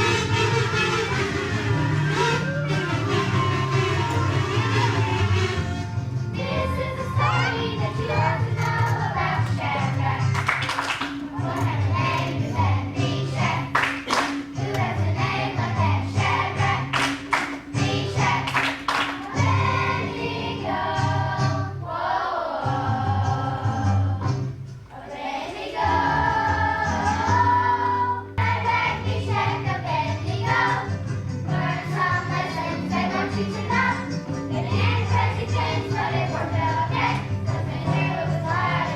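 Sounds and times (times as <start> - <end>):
children's choir singing: 0.0 - 38.9
instrumental accompaniment: 0.0 - 38.9.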